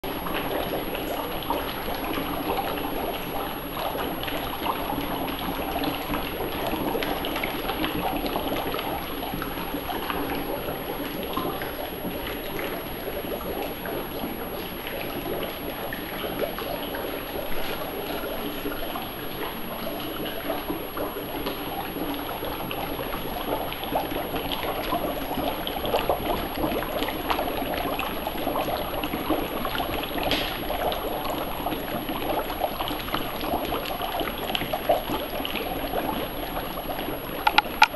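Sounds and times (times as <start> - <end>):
dry ice bubbling in water: 0.0 - 37.9.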